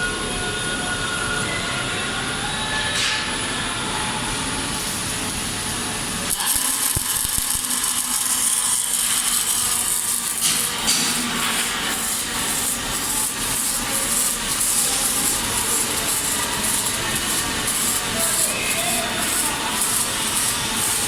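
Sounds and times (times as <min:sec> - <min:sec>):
machine hum: 0:03.4 - 0:21.0
arc welding hissing crackle: 0:03.8 - 0:21.0.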